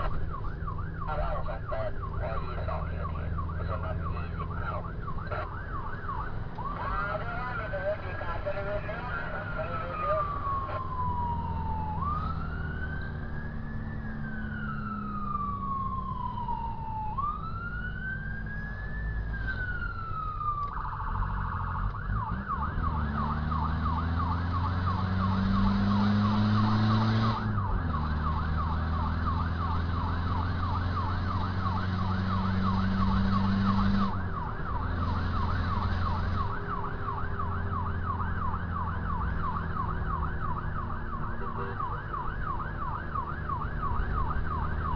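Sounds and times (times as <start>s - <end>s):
emergency siren wail and yelp: 0.0s - 44.9s
vehicle engine: 0.0s - 44.9s.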